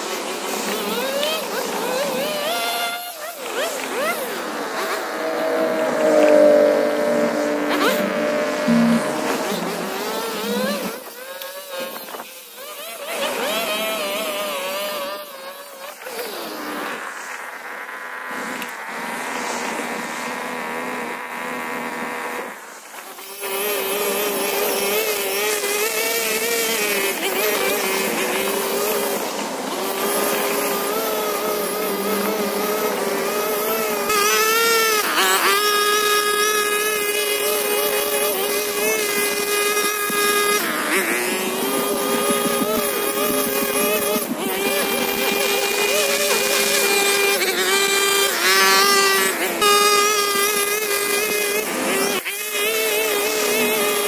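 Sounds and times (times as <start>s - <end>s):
string trimmer revving: 0.0s - 22.6s, 23.2s - 54.0s.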